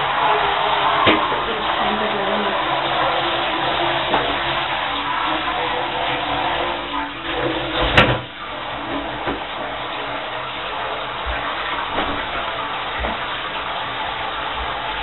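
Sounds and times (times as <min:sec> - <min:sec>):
tap water running: 0:00.0 - 0:15.0.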